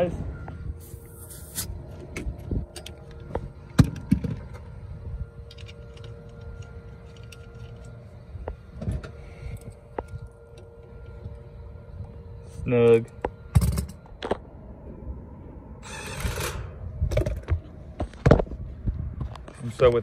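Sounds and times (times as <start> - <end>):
hvac unit humming: 0.0 - 17.0.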